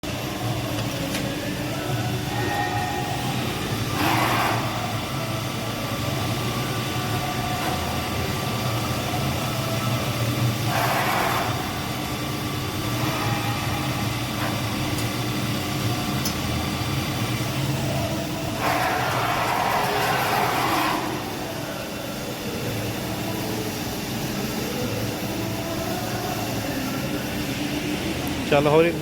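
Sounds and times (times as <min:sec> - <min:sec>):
milling machine humming: 0:00.0 - 0:29.0.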